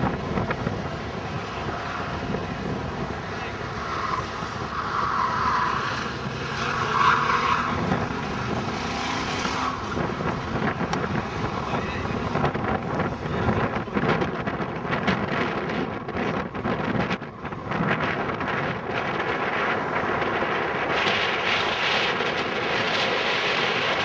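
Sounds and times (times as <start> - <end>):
car engine running hard: 0.0 - 24.0.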